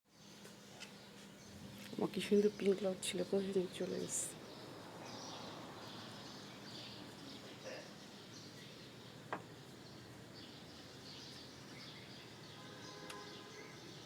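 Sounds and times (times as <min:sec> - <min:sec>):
distant birds chirping: 0:00.1 - 0:14.0.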